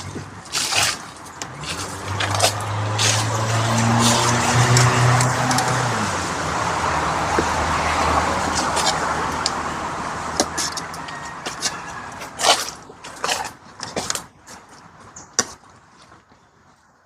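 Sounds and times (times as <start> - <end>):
vehicle engine hum: 0.0 - 15.3.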